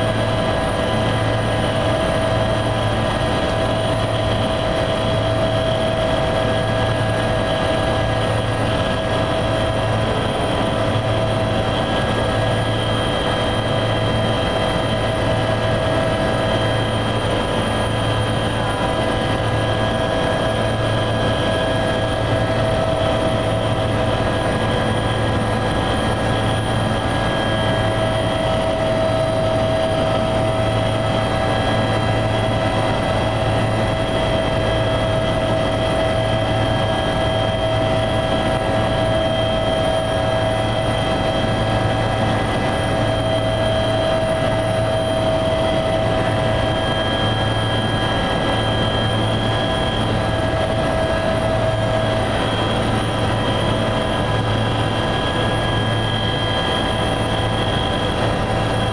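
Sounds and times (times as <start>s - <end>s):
helicopter rotor and turbine drone: 0.0s - 58.9s.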